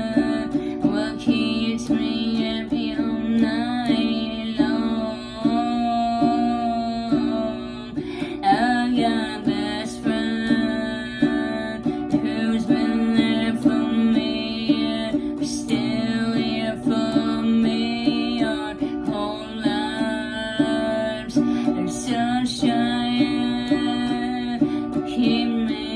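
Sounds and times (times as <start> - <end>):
plucked guitar music: 0.0 - 25.9.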